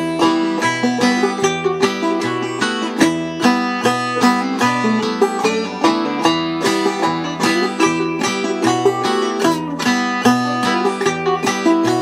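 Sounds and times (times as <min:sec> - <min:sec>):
banjo plucked clawhammer style: 0:00.0 - 0:12.0.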